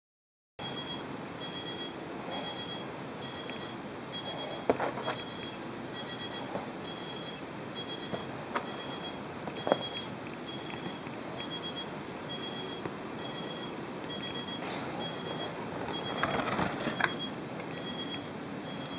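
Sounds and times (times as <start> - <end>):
electronic beeping: 0.6 - 18.9.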